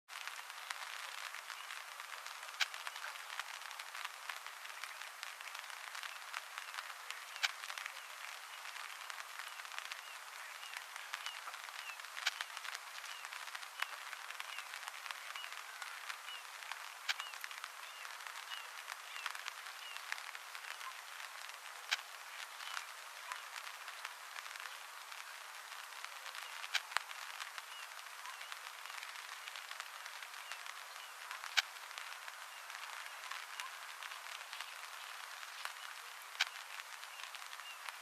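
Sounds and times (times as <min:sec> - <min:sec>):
steady high hiss with crackles: 0:00.1 - 0:38.0.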